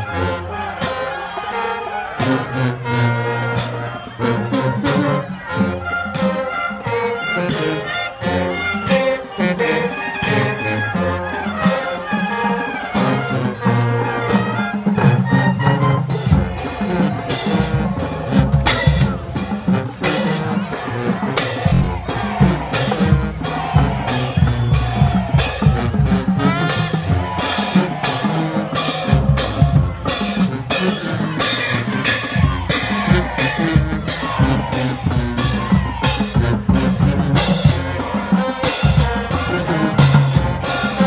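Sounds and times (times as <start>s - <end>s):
drumline drums and cymbals: 0.0s - 41.0s
marching band playing: 0.0s - 41.0s.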